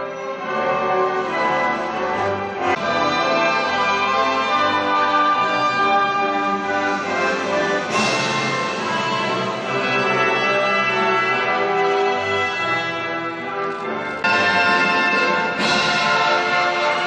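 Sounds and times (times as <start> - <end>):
orchestra with brass playing: 0.0 - 17.0.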